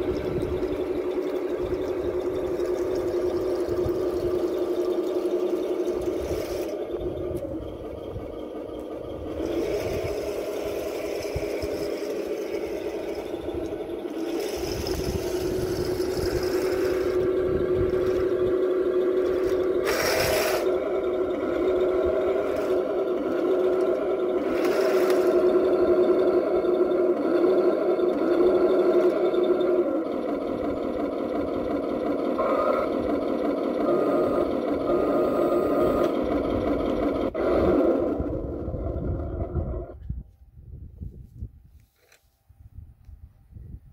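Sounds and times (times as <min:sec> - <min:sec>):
model tank motor drone: 0:00.0 - 0:40.1.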